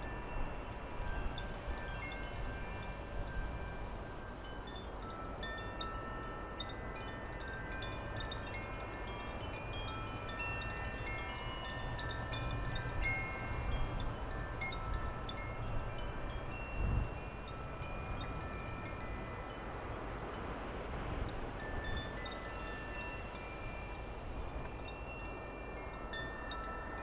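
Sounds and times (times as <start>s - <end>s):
wind chimes ringing: 0.0s - 27.0s
wind rumble on microphone: 0.0s - 27.0s.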